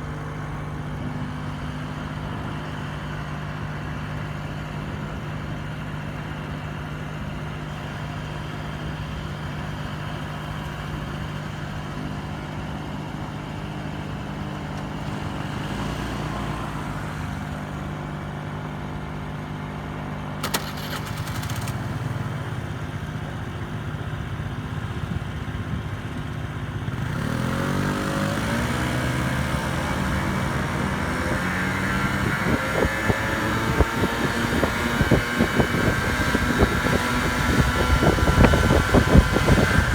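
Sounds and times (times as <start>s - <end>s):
scooter engines idling and revving: 0.0s - 39.9s.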